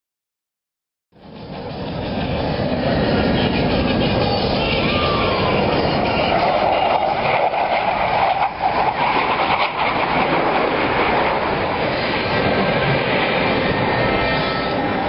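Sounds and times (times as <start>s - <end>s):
jet engine roar: 1.2s - 15.0s.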